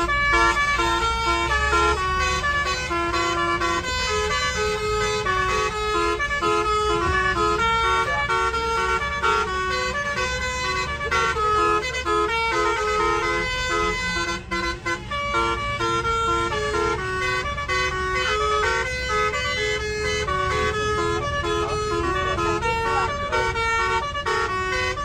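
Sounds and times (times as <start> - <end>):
bus engine rumble: 0.0 - 25.0
musical air horn melody: 0.0 - 25.0.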